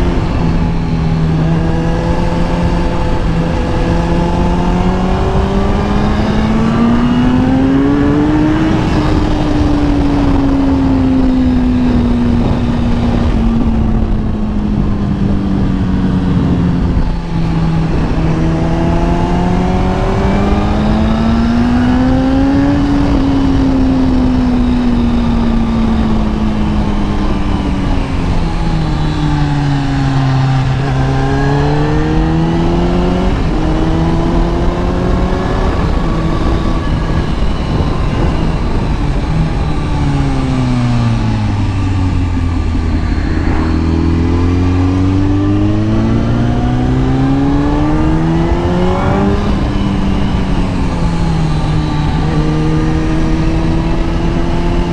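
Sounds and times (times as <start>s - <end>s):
motorcycle engine revving: 0.0s - 54.9s
wind and road noise: 0.0s - 54.9s.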